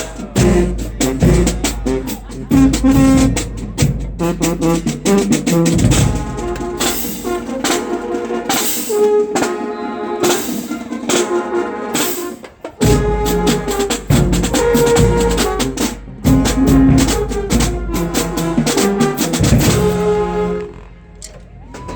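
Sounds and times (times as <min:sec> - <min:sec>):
drumline drumming: 0:00.0 - 0:20.7, 0:21.6 - 0:21.9
brass horns: 0:00.0 - 0:21.3
marching band playing: 0:00.0 - 0:21.9.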